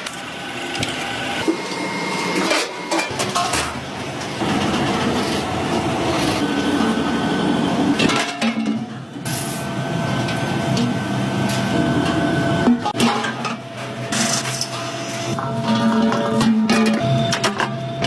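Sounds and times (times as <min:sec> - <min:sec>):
workshop machinery running: 0:00.0 - 0:18.0.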